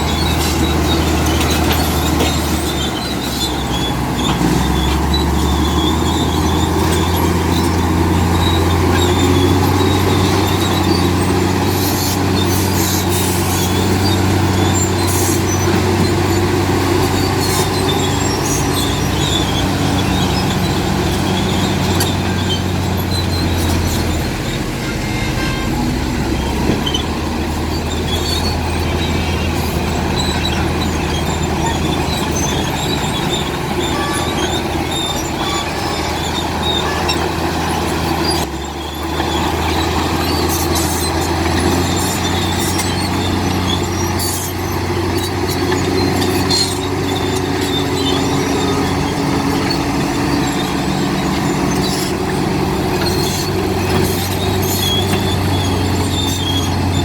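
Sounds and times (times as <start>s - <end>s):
bulldozer diesel engine under load: 0.0s - 57.0s
metallic clicks and squeaks of tracks: 0.0s - 57.0s.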